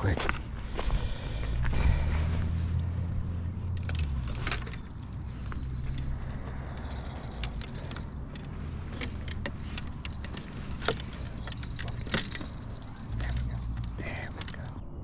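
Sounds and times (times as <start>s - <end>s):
sharp clicks and ticks: 1.4s - 14.8s.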